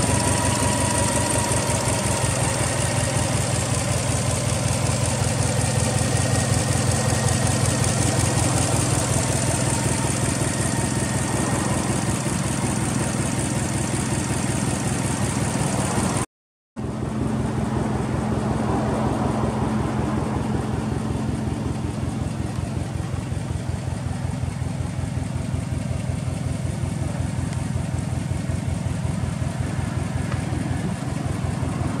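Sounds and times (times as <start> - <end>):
car engine idling: 0.0 - 16.2, 16.8 - 32.0.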